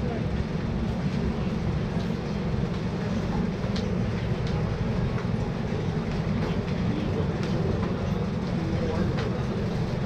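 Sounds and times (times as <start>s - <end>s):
indoor market ambience: 0.0s - 10.0s.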